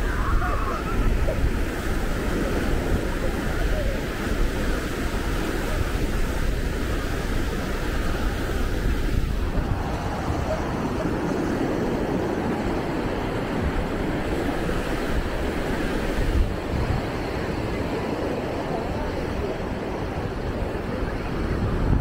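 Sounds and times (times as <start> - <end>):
ocean surf: 0.0 - 22.0
wind rumbling on microphone: 0.0 - 22.0.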